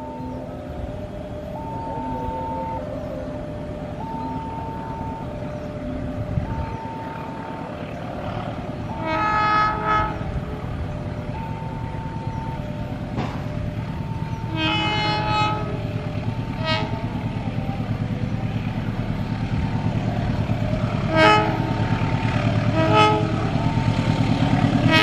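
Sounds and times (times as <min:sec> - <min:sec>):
idling diesel locomotive: 0:00.0 - 0:25.0
locomotive horn blasts: 0:00.0 - 0:25.0.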